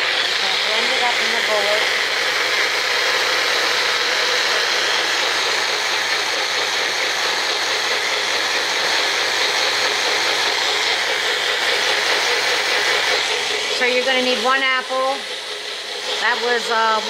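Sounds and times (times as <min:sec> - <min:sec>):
blender running: 0:00.0 - 0:17.0.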